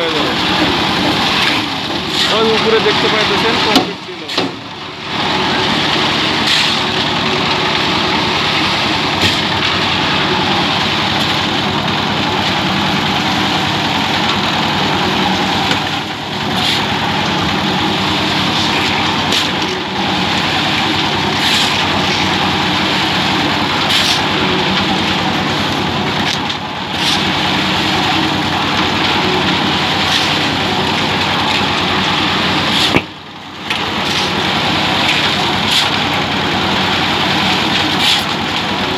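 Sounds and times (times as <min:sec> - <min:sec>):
concrete mixer churning: 0:00.0 - 0:38.9.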